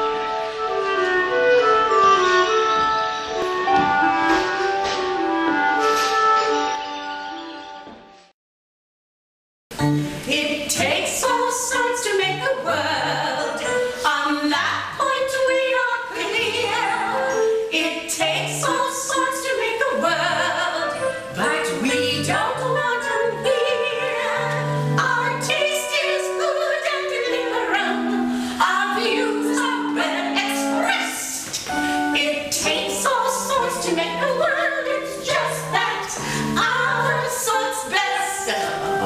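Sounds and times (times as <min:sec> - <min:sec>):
musical theatre accompaniment: 0:00.0 - 0:08.3, 0:09.8 - 0:39.0.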